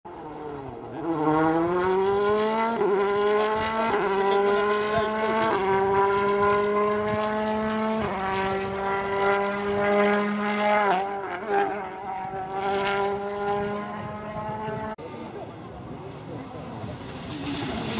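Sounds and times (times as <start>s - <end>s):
car engine accelerating: 0.1s - 17.9s.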